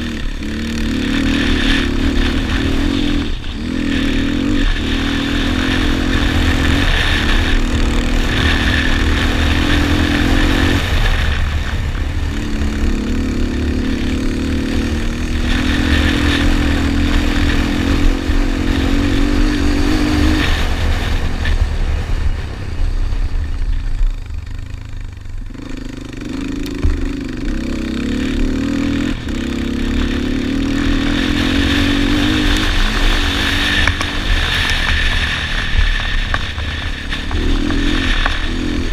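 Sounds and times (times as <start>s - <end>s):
quad bike engine revving: 0.0s - 38.9s
wind rumbling on microphone: 0.0s - 38.9s.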